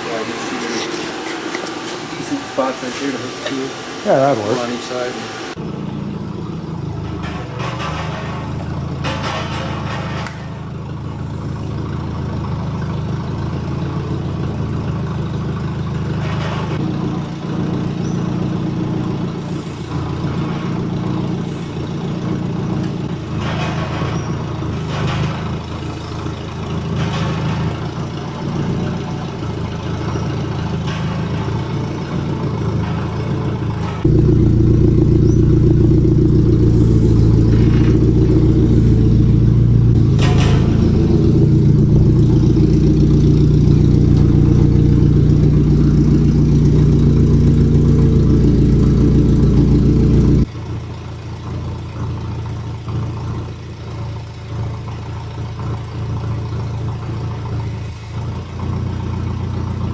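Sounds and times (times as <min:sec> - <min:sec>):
forklift engine running: 0:00.0 - 0:59.9.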